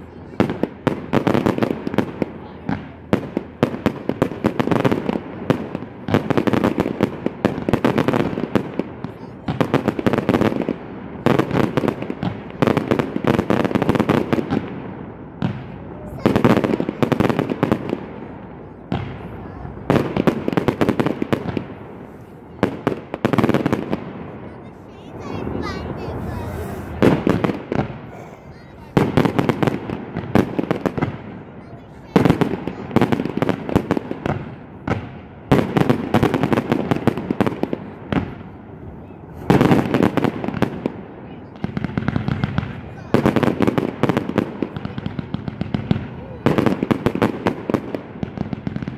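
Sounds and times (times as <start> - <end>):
fireworks booming: 0.0 - 48.9
fireworks crackling: 0.0 - 48.9.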